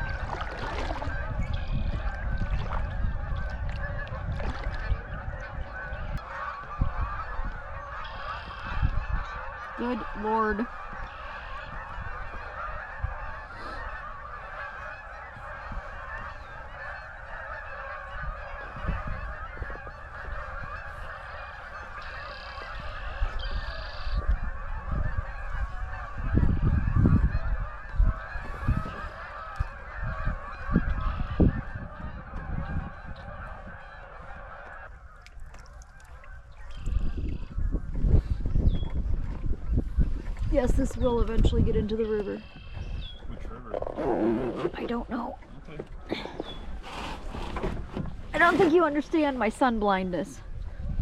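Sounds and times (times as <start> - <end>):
waterfowl flock honking: 0.0 - 50.9.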